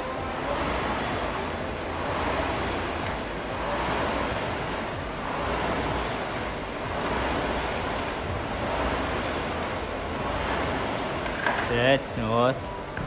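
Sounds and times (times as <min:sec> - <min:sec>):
rowing machine fan whooshing: 0:00.0 - 0:13.0.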